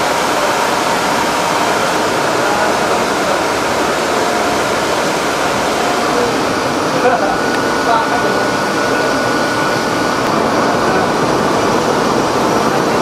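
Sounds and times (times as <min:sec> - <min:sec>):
grilling machine rushing hiss: 0:00.0 - 0:13.0.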